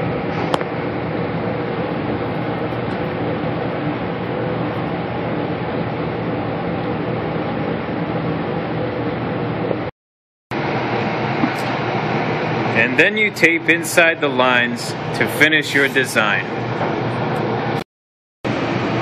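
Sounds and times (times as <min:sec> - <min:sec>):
ventilation fan rushing air: 0:00.0 - 0:09.9, 0:10.5 - 0:17.8, 0:18.5 - 0:19.0.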